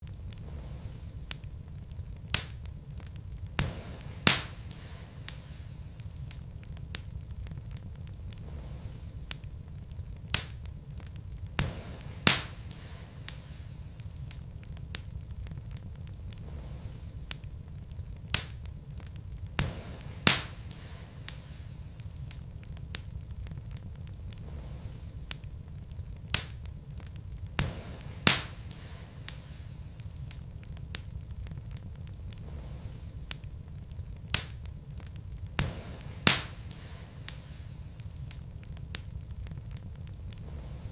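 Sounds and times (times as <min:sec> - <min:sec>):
fire crackling and popping: 0:00.0 - 0:40.9
low steady rumble: 0:00.0 - 0:40.9.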